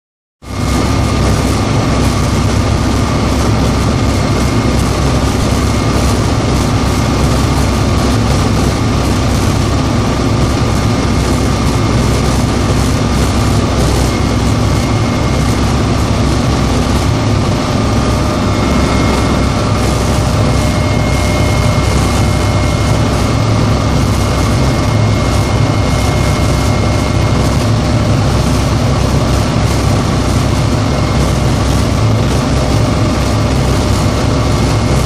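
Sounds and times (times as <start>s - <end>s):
helicopter rotor and engine drone: 0.4s - 35.0s
high whine: 0.4s - 35.0s.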